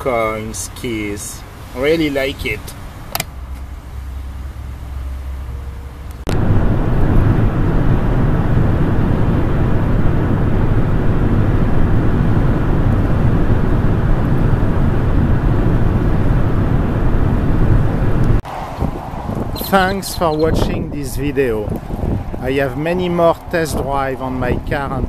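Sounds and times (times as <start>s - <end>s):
road and wind noise: 0.0s - 25.0s
low engine drone: 1.4s - 24.6s.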